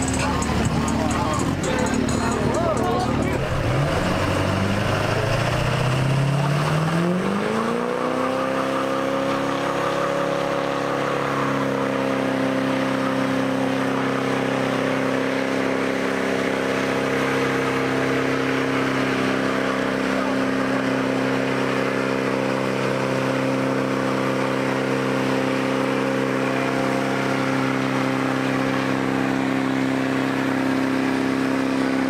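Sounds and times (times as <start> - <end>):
pickup truck engine revving: 0.0 - 32.0.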